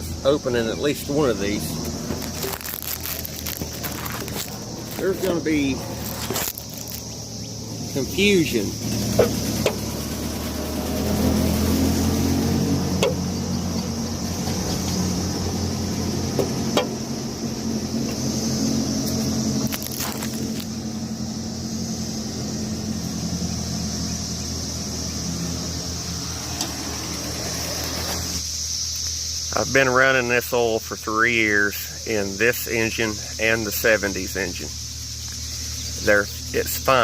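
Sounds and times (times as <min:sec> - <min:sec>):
car engine idling: 0:00.0 - 0:37.0
crickets chirping: 0:00.0 - 0:37.0.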